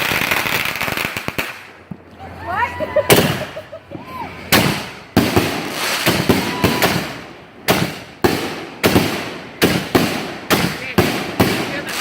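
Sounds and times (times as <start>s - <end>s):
fireworks sharp bangs: 0.0s - 2.1s, 3.0s - 3.7s, 4.4s - 12.0s.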